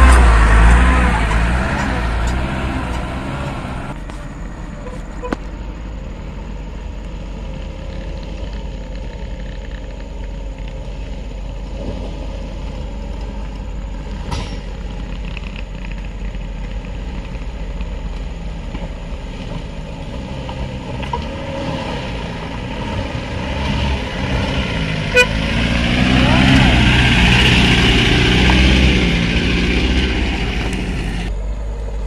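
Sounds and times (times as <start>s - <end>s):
distant vehicle engines running: 0.0s - 32.0s.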